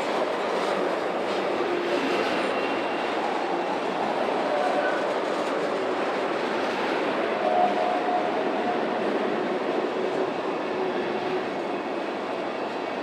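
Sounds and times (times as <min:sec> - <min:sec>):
steel wheels rolling on rail: 0:00.0 - 0:13.0.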